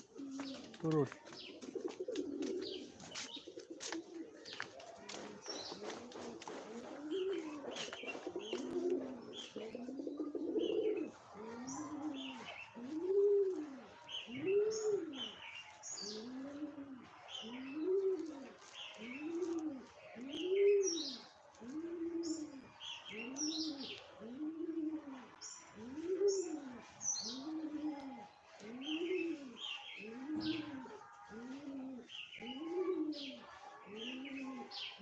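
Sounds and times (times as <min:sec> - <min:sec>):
dove cooing: 0:00.0 - 0:00.8, 0:01.5 - 0:05.0, 0:05.7 - 0:15.4, 0:16.0 - 0:35.0
small birds chirping: 0:00.0 - 0:06.1, 0:07.0 - 0:21.4, 0:22.0 - 0:35.0.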